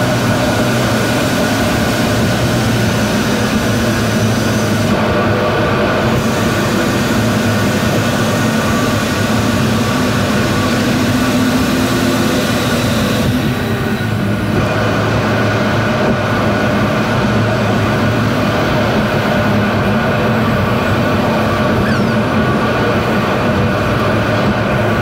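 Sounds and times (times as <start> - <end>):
car road noise from inside: 0.0 - 25.0
tunnel hiss: 0.0 - 25.0.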